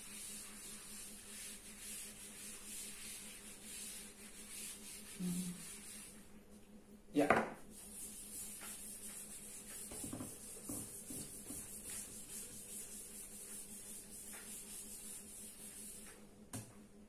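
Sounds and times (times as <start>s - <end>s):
duster rubbing chalkboard: 0.0s - 6.3s, 7.7s - 16.2s.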